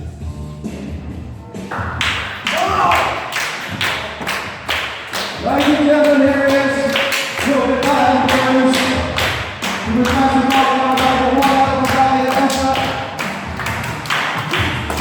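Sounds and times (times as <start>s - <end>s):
entrance music over speakers: 0.0s - 15.0s.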